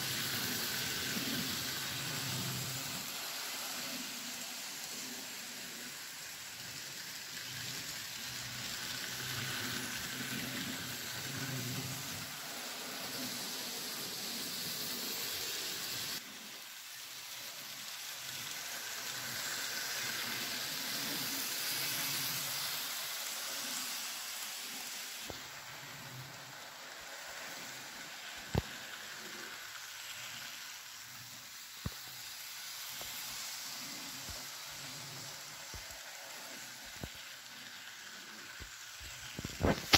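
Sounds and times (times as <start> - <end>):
model trains on track: 0.0 - 39.9
steady hiss: 0.0 - 39.9.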